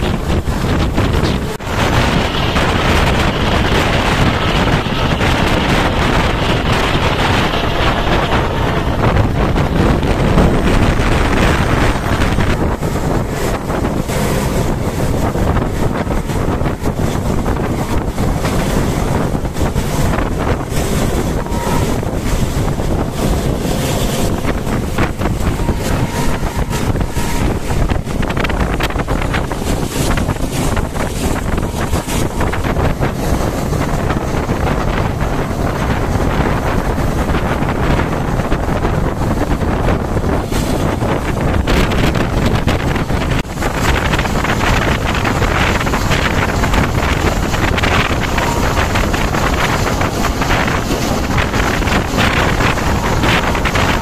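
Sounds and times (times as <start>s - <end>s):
moving passenger train: 0.0s - 54.0s
wind buffeting microphone: 0.0s - 54.0s.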